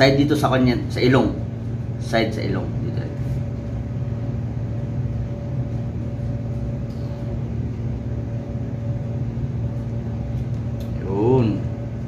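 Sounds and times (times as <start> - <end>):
low mechanical hum with whine: 0.0 - 12.0.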